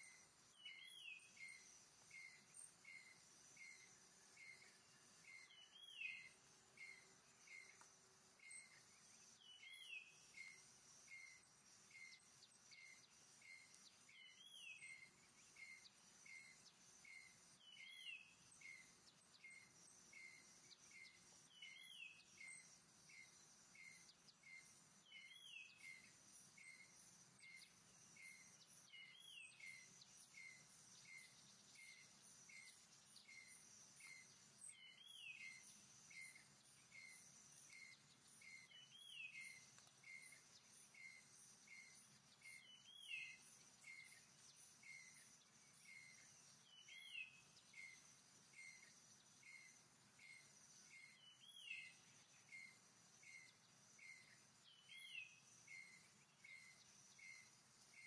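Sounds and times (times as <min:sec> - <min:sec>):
insect hum: 0:00.0 - 0:58.0.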